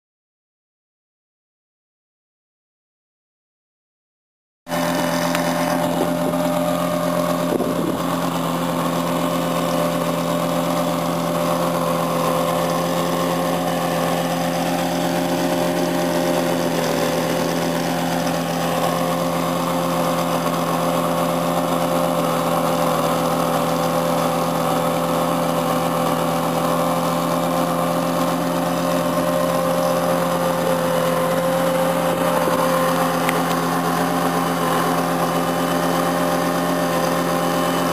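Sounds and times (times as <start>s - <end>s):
truck engine running: 4.7s - 37.9s.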